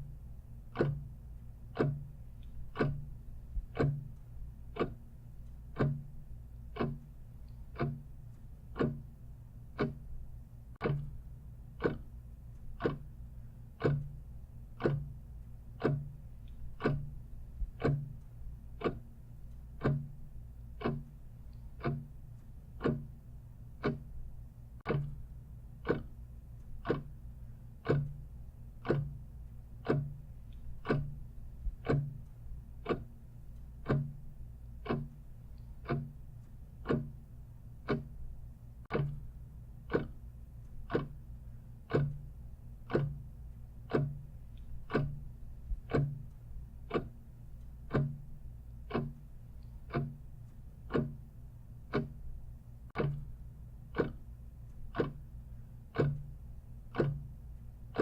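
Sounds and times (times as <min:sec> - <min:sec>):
clock ticking: 0:00.0 - 0:58.0
faint low hum: 0:00.0 - 0:58.0.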